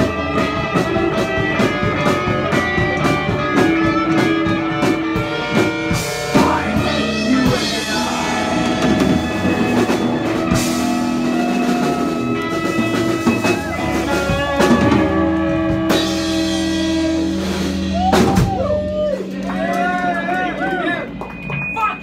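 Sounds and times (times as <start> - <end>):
drum and cymbal hits: 0.0 - 19.4
live punk band playing: 0.0 - 22.0.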